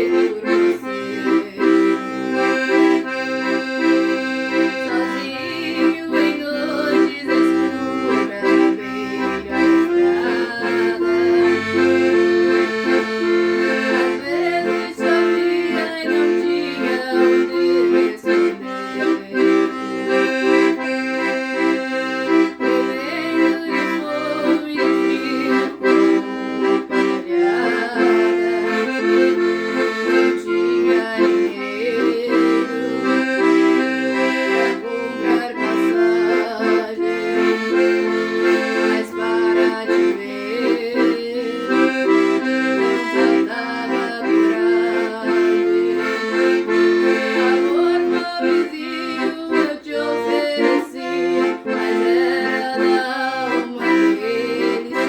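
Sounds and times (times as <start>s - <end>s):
accordion playing: 0.0s - 55.0s.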